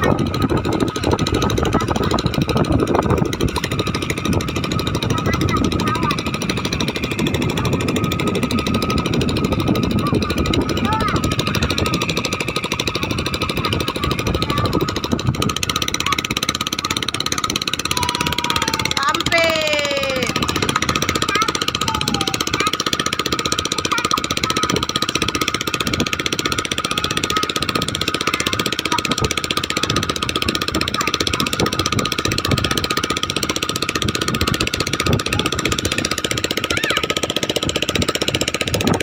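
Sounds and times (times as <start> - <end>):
strong wind buffeting microphone: 0.0 - 22.9, 23.6 - 39.0.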